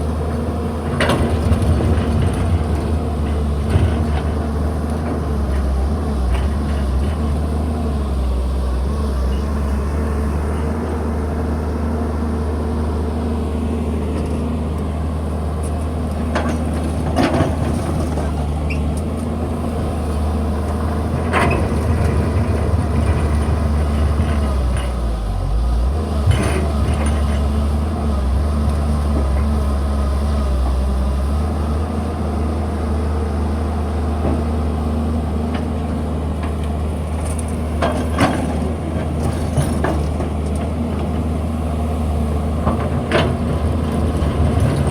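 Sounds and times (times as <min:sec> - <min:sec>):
excavator diesel engine: 0:00.0 - 0:44.9.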